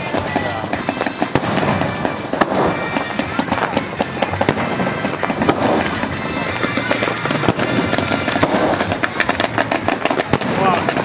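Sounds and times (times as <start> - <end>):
fireworks bursting and crackling: 0.0 - 11.0
loud firework bang: 0.0 - 11.0
music: 0.0 - 11.0.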